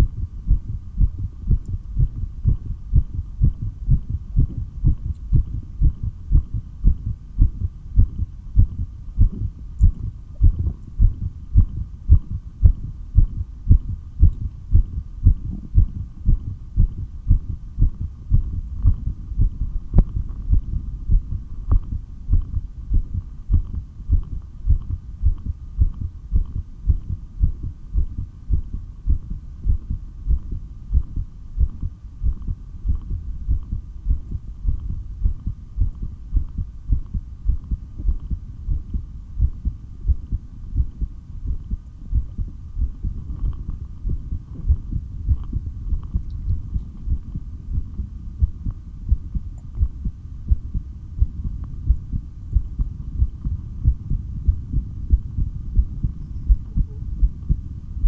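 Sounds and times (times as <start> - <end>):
faint hum: 0.0 - 58.0
heartbeat thuds: 0.0 - 58.0.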